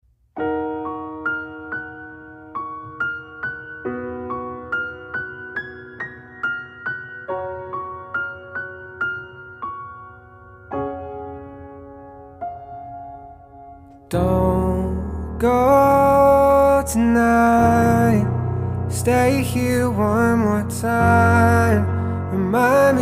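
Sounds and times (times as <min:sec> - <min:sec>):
soft piano melody: 0:00.3 - 0:23.0.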